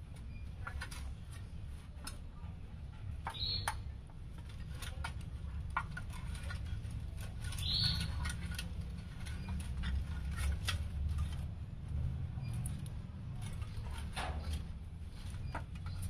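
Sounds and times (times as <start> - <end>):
claws tapping and scratching metal: 0.0 - 16.0.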